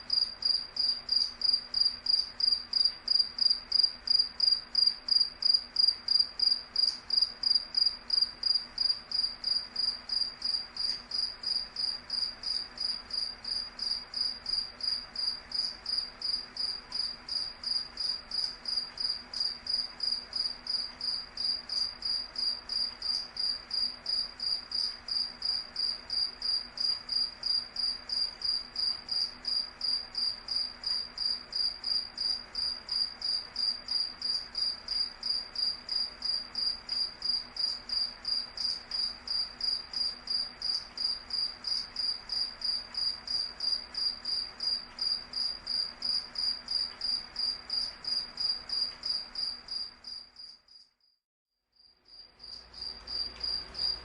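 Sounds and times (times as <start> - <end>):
cricket chirping: 0.0 - 51.2, 51.8 - 54.0.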